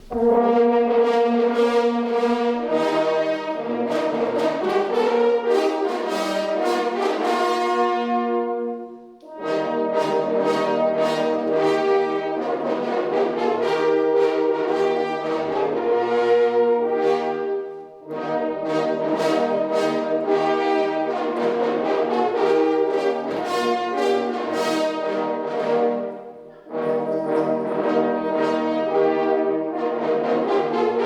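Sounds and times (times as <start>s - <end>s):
hunting horns playing fanfare: 0.0s - 31.0s.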